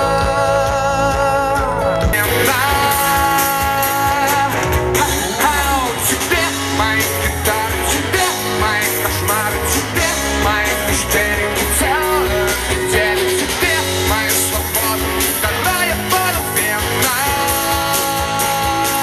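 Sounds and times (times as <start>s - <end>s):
bass guitar: 0.0s - 19.0s
electric guitar: 0.0s - 19.0s
man singing into microphone: 0.0s - 19.0s.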